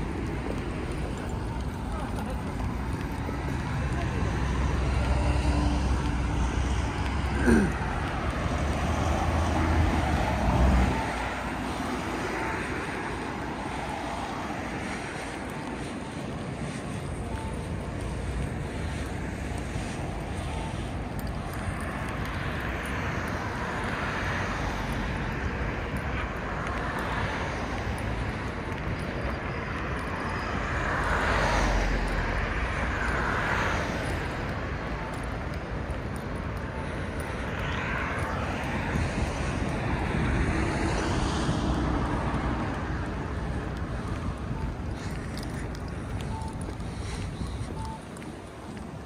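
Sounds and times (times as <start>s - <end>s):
traffic hum: 0.0s - 49.0s
vehicles passing: 0.0s - 49.0s.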